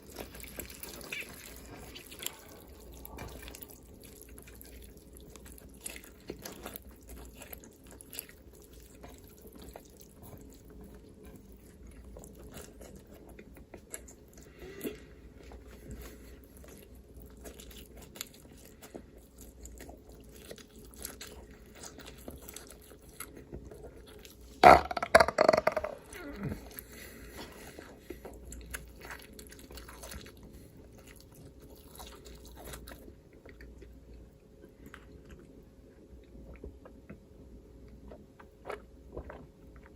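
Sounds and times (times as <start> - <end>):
chewing and biting: 0.0 - 24.6, 26.2 - 39.9.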